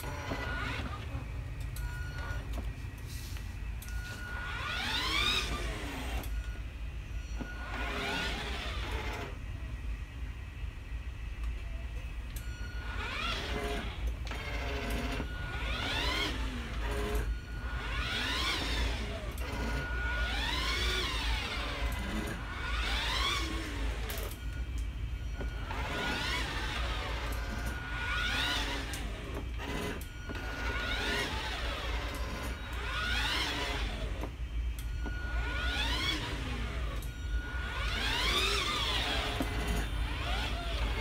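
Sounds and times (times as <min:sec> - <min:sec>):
electric toy car whine: 0:00.0 - 0:09.7, 0:12.3 - 0:41.0
steady low hum: 0:00.0 - 0:41.0.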